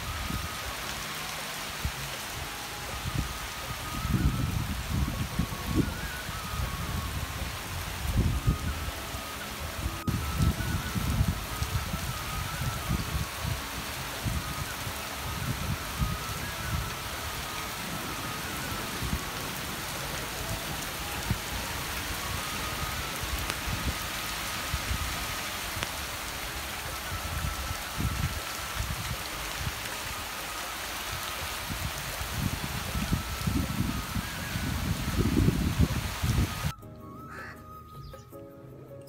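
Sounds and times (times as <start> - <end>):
heavy rain on ground and foliage: 0.0 - 36.8.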